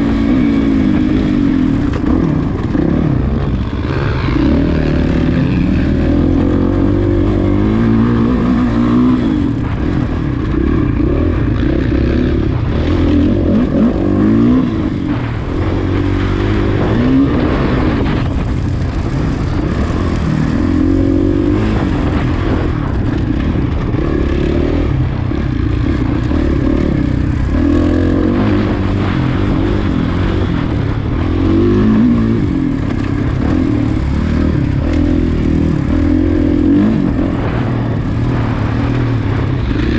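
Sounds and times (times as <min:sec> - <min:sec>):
dirt bike engine revving: 0:00.0 - 0:39.9
low rumble: 0:00.0 - 0:39.9.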